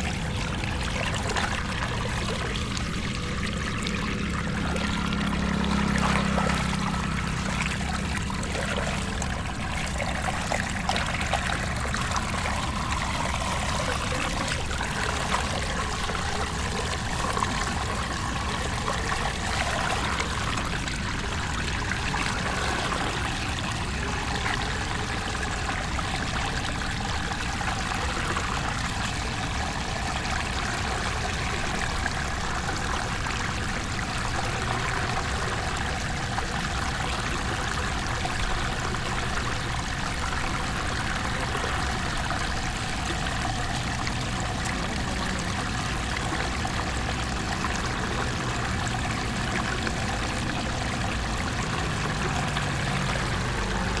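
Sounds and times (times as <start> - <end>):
floodwater running and pouring: 0.0 - 54.0.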